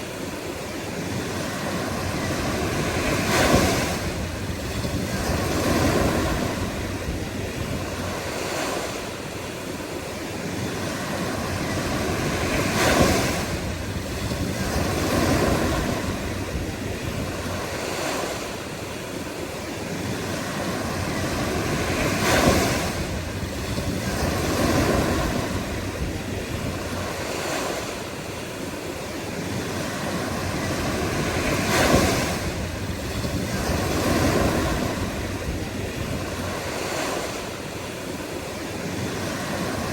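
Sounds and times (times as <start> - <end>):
waves washing: 0.0 - 39.9.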